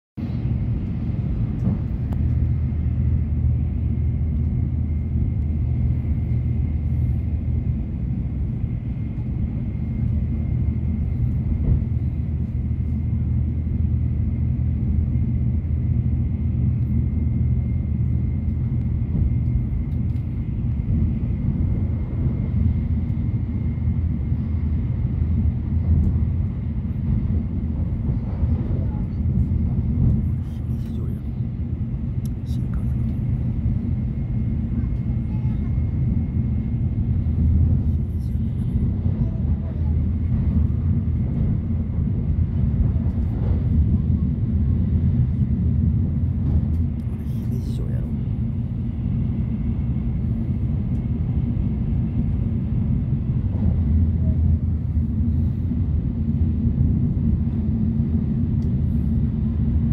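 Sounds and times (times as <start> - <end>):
train cabin low rumble: 0.2 - 59.9.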